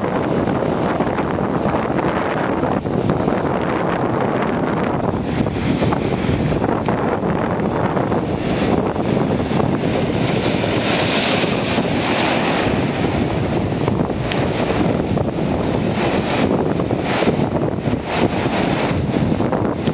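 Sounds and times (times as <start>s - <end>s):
sea surf breaking over rocks: 0.0s - 19.9s
wind buffeting microphone: 0.0s - 19.9s.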